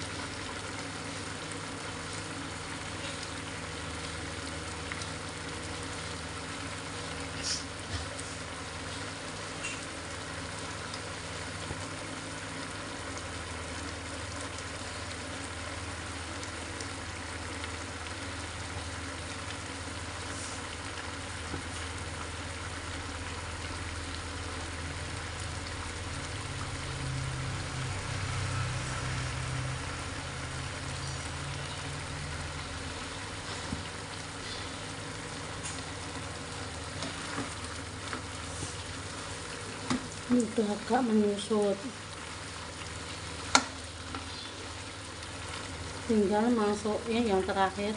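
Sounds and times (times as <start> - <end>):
sauce bubbling in frying pan: 0.0 - 47.9.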